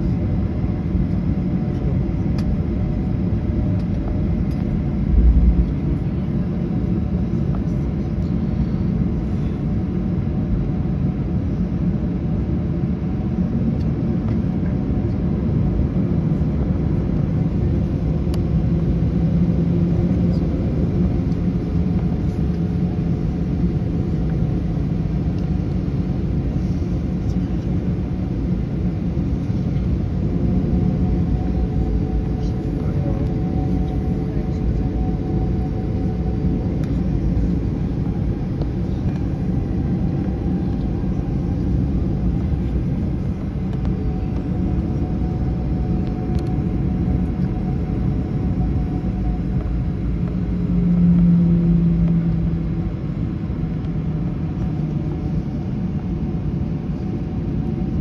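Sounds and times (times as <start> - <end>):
jet engines idling rumble: 0.0 - 58.0.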